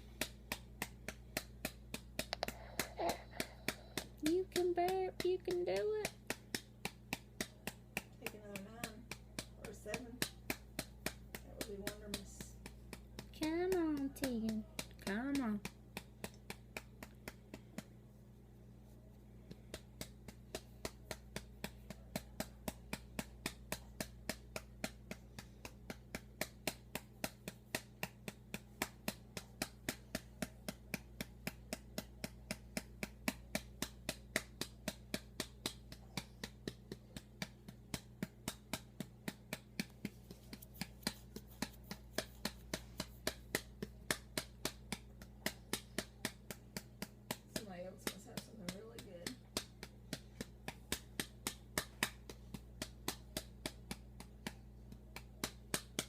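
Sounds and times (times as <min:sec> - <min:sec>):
light patting on doll: 0:00.0 - 0:56.0
low steady hum: 0:00.0 - 0:56.0.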